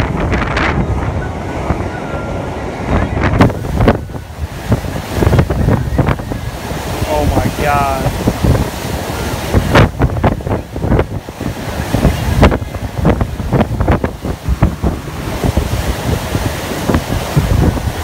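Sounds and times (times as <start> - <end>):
ship wake rushing: 0.0 - 18.0
wind buffeting microphone: 0.0 - 18.0.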